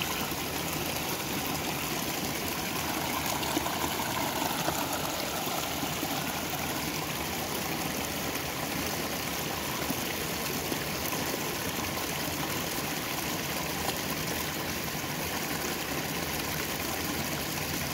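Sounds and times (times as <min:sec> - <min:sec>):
shallow stream rushing: 0:00.0 - 0:17.9.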